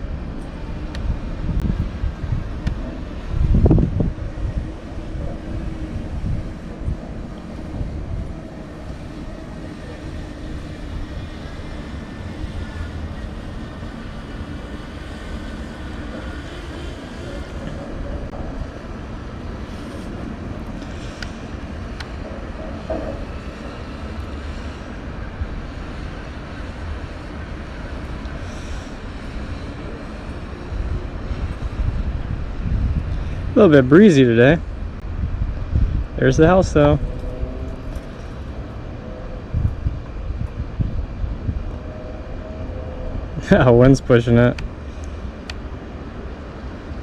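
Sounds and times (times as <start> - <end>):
drone propellers humming: 0.0 - 47.0
wind rumble on microphone: 0.0 - 47.0.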